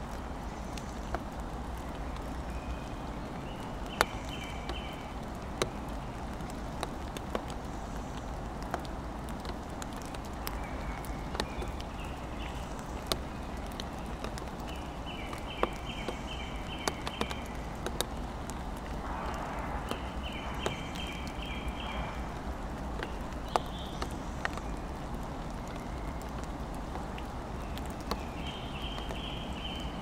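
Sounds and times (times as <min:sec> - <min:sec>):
sharp drips ticking: 0:00.0 - 0:30.0
steady rain: 0:00.0 - 0:30.0.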